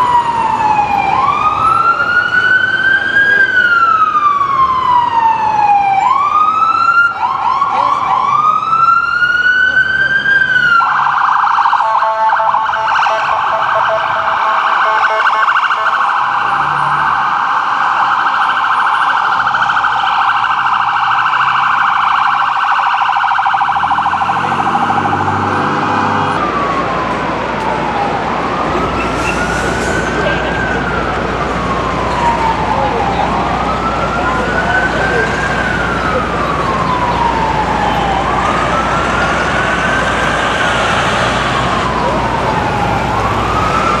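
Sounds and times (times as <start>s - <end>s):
electronic ambulance siren: 0.0s - 44.0s
street noise: 0.0s - 44.0s.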